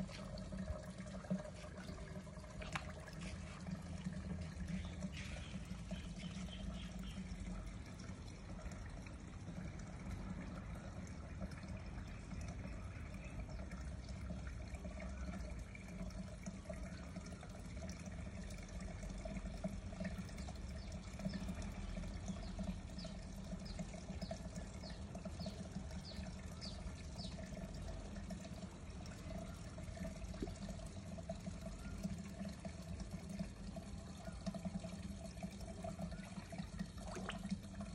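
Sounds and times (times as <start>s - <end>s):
low steady hum: 0.0s - 37.9s
water pouring into a pond: 0.0s - 37.9s.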